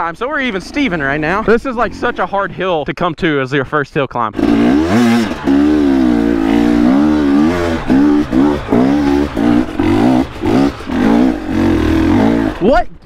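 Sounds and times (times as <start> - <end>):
dirt bike engine surging: 0.0 - 2.8, 4.3 - 12.8.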